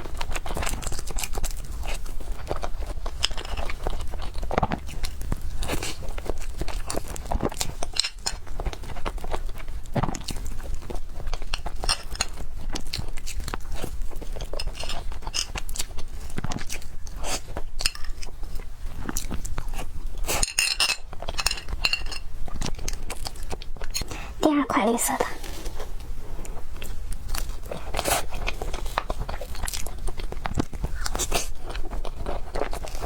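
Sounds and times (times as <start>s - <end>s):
wet crackly chewing: 0.0s - 24.3s, 25.4s - 33.0s.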